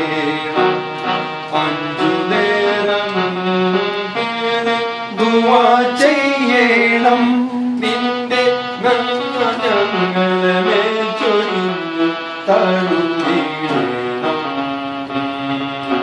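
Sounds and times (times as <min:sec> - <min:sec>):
electronic keyboard slow melody: 0:00.0 - 0:16.0.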